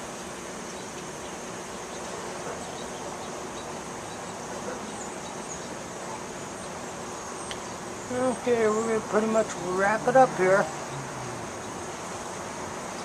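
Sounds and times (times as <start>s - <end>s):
background hiss: 0.0s - 13.0s
high insect drone: 0.0s - 13.0s.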